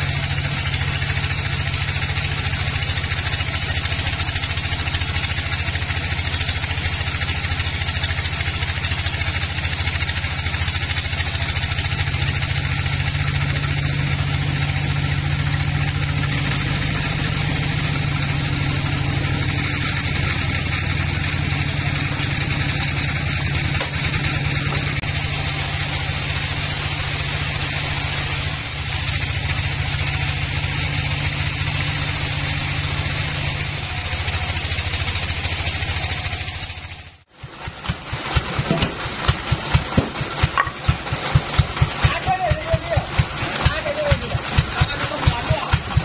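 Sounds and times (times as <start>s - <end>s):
saw blade cutting logs: 0.0s - 46.0s
sawmill motor drone: 0.0s - 46.0s.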